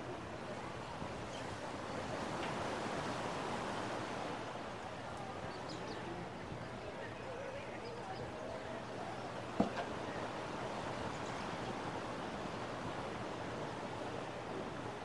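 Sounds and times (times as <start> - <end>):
ocean surf: 0.0 - 7.2, 8.8 - 15.0
wind: 0.0 - 15.0.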